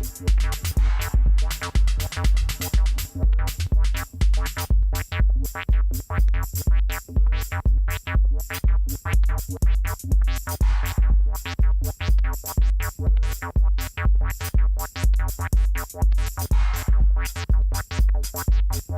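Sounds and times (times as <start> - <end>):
drum machine kick: 0.0 - 18.9
electronic dance music: 0.0 - 18.9.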